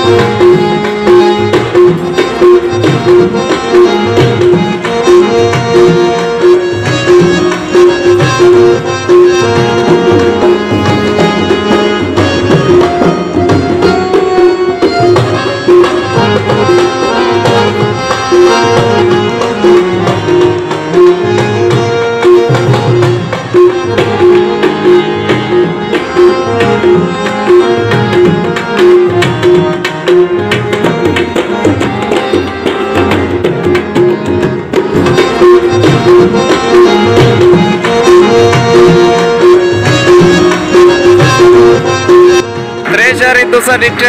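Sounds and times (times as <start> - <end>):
background music with drum beat: 0.0 - 44.0.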